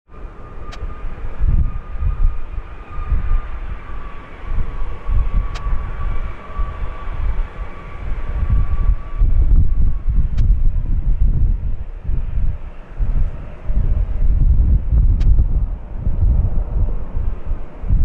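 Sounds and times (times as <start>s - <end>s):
jet engines whining: 0.1s - 18.0s
wind buffeting microphone: 0.1s - 18.0s.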